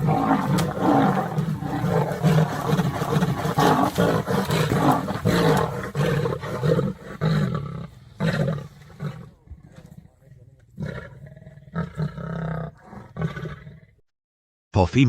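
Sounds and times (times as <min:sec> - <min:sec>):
big cats roaring and snarling: 0:00.0 - 0:14.0.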